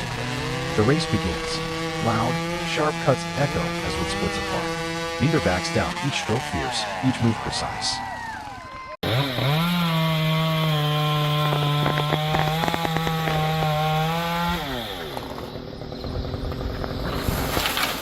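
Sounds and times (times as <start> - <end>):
chainsaw cutting wood: 0.0 - 18.0
chainsaw engine: 0.0 - 18.0.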